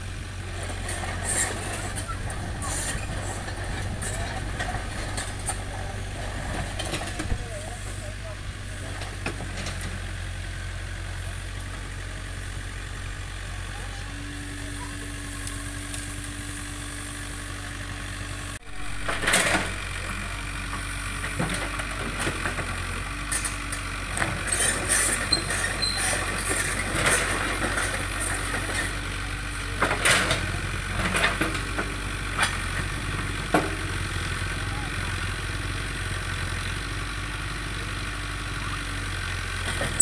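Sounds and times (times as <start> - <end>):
excavator engine idling: 0.0 - 40.0.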